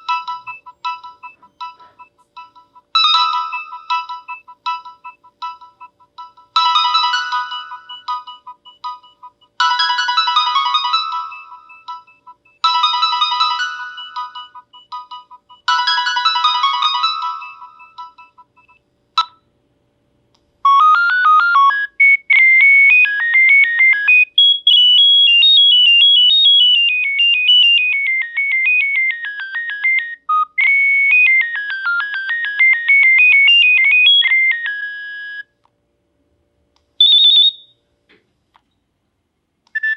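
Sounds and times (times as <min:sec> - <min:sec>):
bright chiming ringtone: 0:00.0 - 0:19.3, 0:20.7 - 0:35.5, 0:37.0 - 0:37.6
beeping ringtone melody: 0:00.0 - 0:19.4, 0:20.7 - 0:35.5, 0:37.0 - 0:37.7.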